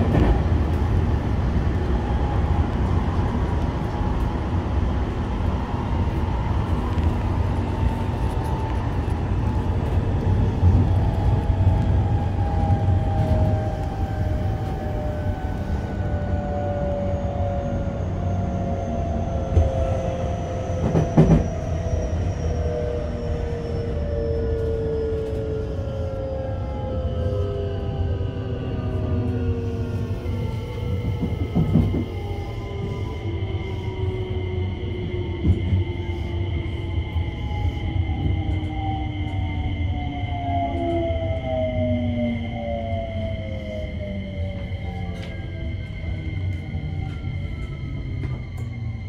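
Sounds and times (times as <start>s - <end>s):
wheels rumbling on rails: 0.0s - 49.0s.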